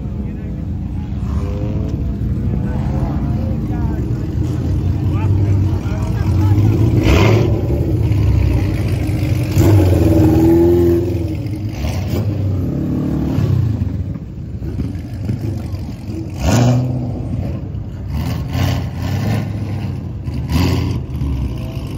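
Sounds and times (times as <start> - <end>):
car engines idling and revving: 0.0 - 21.9.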